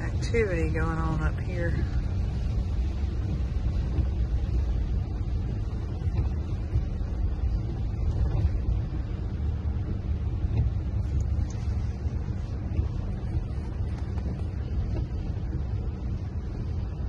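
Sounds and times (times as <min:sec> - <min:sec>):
vehicle driving heard from inside: 0:00.0 - 0:17.0.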